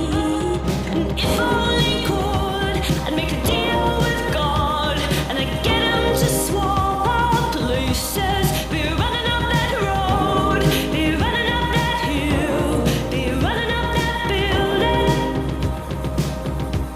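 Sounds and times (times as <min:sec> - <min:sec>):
pop song with singing and band: 0:00.0 - 0:16.9.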